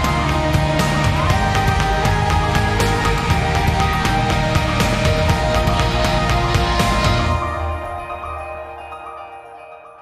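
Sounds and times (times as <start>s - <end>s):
tv theme music with driving beat: 0.0s - 9.8s.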